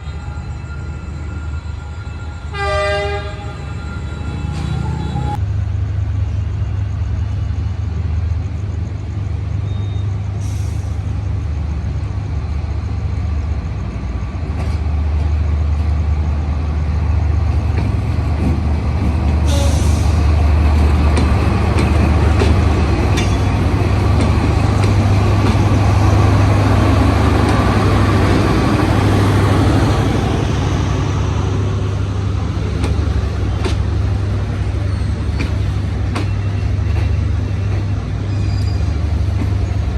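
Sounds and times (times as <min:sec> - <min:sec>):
diesel locomotive engine rumble: 0:00.0 - 0:39.9.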